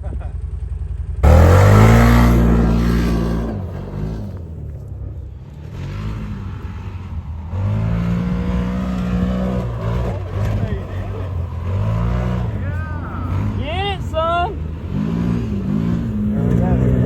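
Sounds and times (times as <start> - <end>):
utv engine revving high: 1.2 - 17.0.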